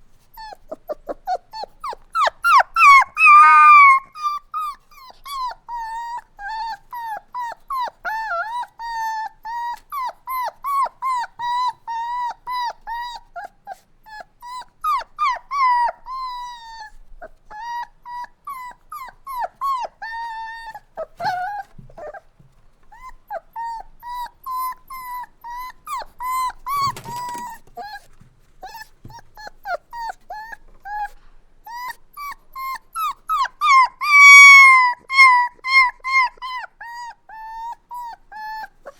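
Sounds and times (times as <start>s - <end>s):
puppy whimpering and crying: 0.2s - 38.9s.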